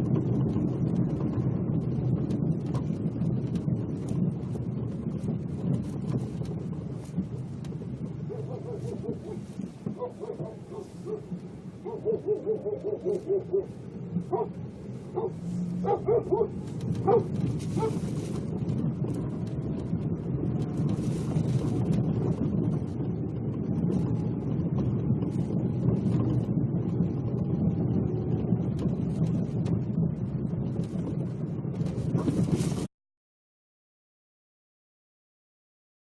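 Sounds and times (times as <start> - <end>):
road and tyre rumble: 0.0 - 32.9.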